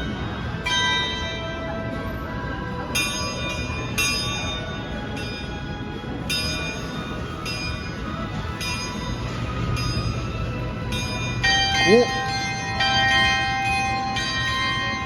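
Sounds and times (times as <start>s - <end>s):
clock chime bells ringing: 0.0s - 1.8s, 2.9s - 15.0s.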